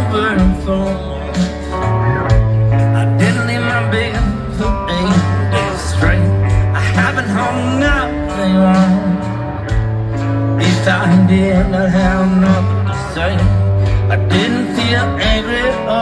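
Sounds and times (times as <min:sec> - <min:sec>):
live rock band: 0:00.0 - 0:16.0
low bass notes: 0:00.0 - 0:16.0.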